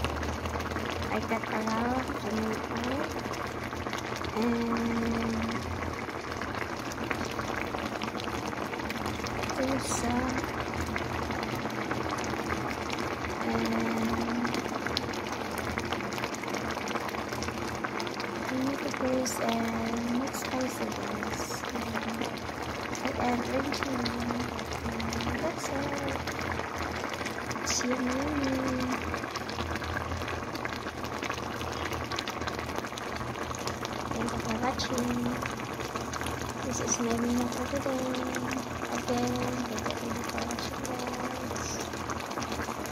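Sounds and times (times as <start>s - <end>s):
stew bubbling in a pan: 0.0s - 42.9s.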